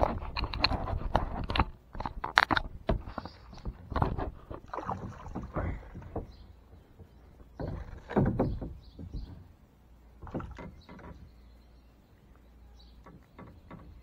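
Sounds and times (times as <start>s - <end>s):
knocks and scraping on plastic kayak: 0.0s - 9.6s, 10.2s - 11.4s, 12.9s - 14.0s.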